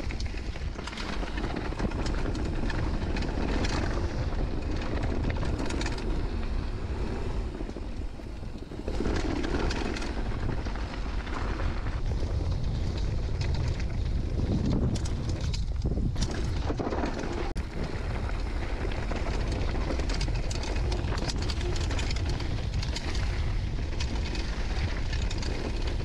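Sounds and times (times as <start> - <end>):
bike clattering over bumps: 0.0 - 26.0
wind rumbling on microphone: 0.0 - 26.0.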